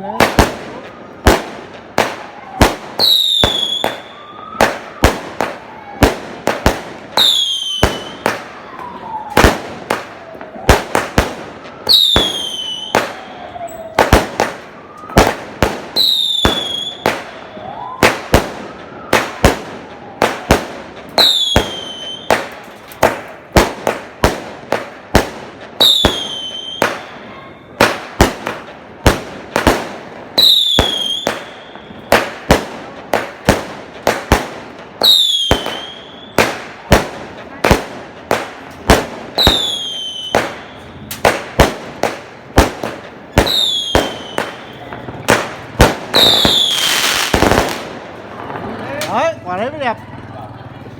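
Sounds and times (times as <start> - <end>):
fireworks banging: 0.0 - 50.0.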